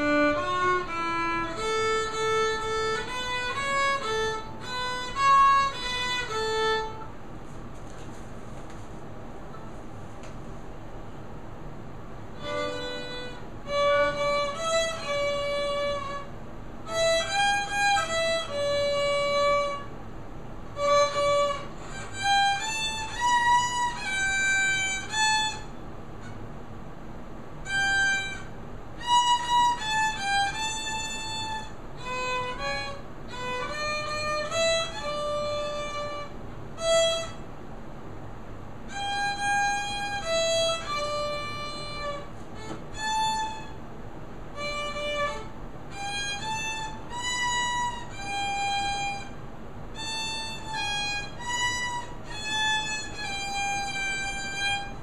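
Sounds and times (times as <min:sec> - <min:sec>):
violin melody: 0:00.0 - 0:07.2, 0:12.3 - 0:20.0, 0:20.6 - 0:26.4, 0:27.5 - 0:37.5, 0:38.8 - 0:43.8, 0:44.4 - 0:55.0.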